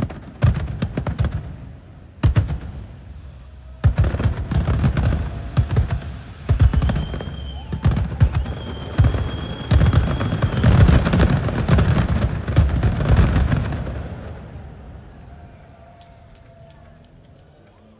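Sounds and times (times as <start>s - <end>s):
fireworks bangs and crackling: 0.0s - 17.9s
high firework whistle: 2.2s - 17.2s.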